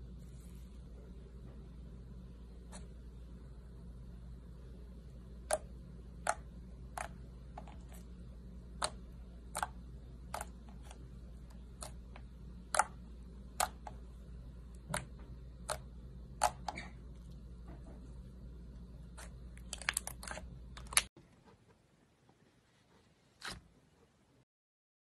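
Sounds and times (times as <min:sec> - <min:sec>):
faint low hum: 0:00.0 - 0:24.4.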